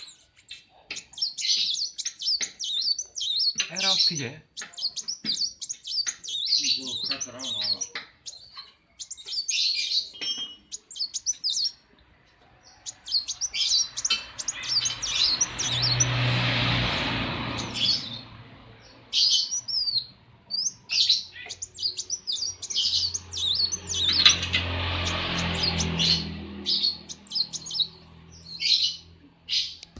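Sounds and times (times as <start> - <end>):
bird singing chattering song: 0.0 - 29.9.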